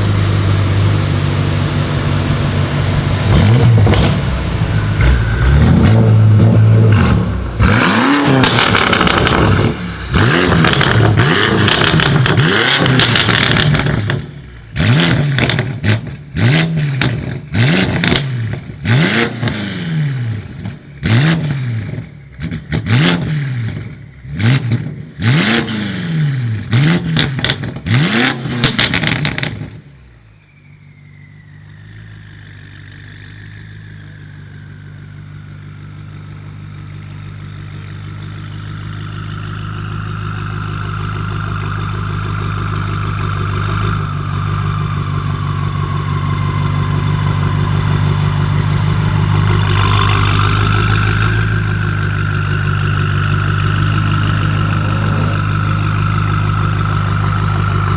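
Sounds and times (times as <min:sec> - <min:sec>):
car engine revving and idling: 0:00.0 - 0:57.9.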